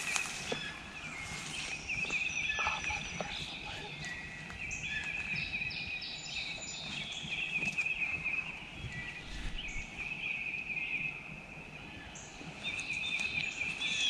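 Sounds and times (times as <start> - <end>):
bird chirps: 0.0 - 14.0
songbird warbling song: 0.0 - 14.0.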